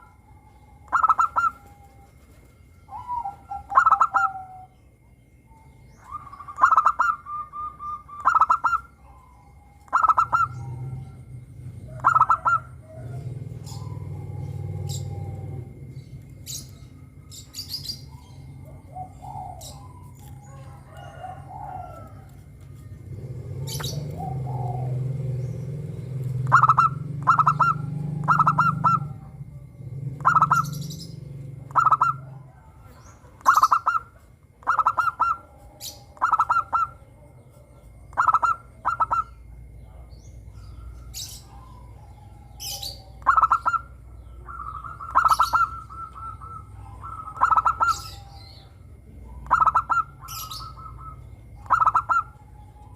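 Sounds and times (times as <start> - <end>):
birds chirping: 0.0 - 52.9
doves cooing: 0.0 - 52.9.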